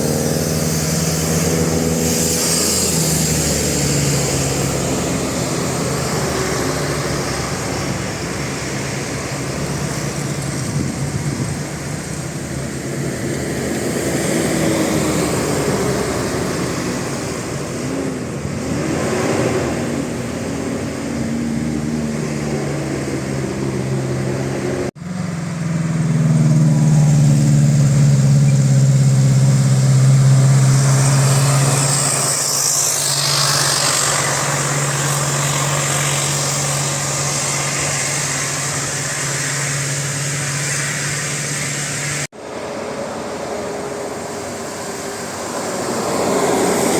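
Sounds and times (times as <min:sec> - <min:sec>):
vehicle engine revving and droning: 0:00.0 - 0:46.9.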